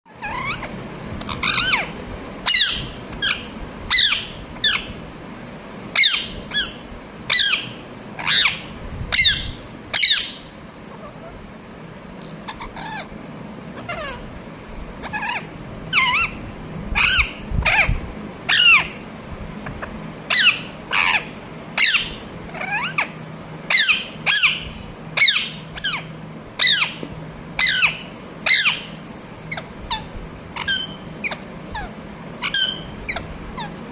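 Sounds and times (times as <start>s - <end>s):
parrot squawking: 0.1s - 5.0s, 6.0s - 11.4s, 12.4s - 13.1s, 13.8s - 14.3s, 15.0s - 17.9s, 18.5s - 19.0s, 19.6s - 27.0s, 27.6s - 33.8s.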